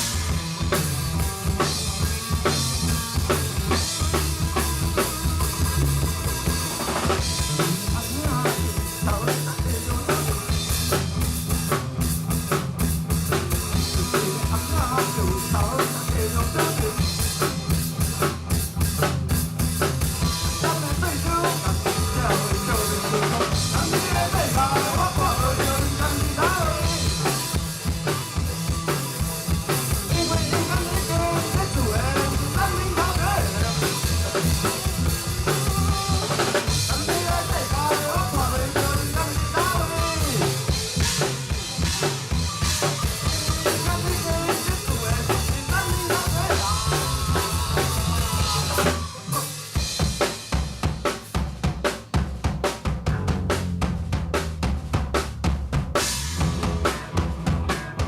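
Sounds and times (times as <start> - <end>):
bass: 0.0 - 58.0
drum kit beat: 0.0 - 58.0.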